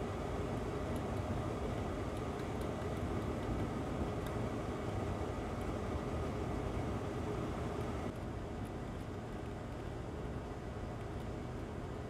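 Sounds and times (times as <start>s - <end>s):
rushing air like a fan: 0.0s - 12.0s.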